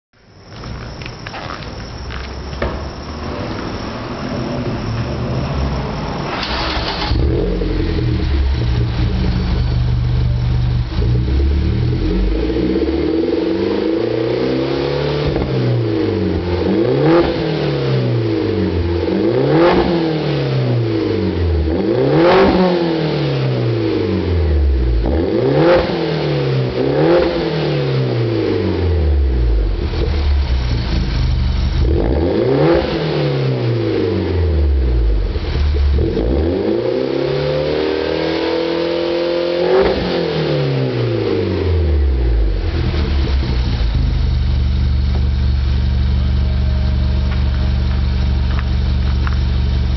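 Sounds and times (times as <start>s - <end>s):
car engine revving: 0.6s - 49.9s.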